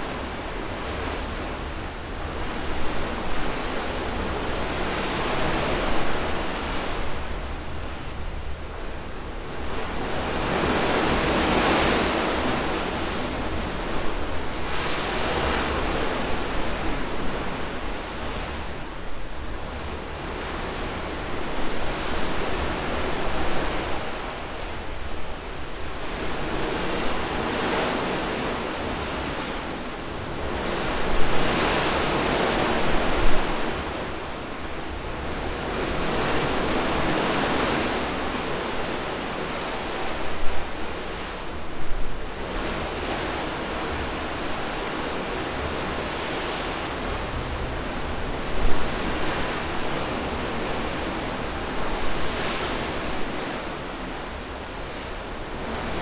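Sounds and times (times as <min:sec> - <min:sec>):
ocean waves rushing along ship: 0:00.0 - 0:56.0.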